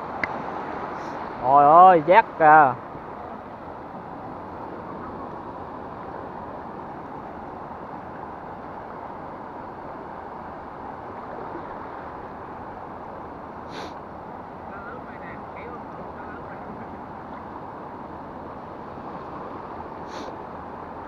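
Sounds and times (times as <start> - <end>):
waves washing on shore: 0.0 - 21.0.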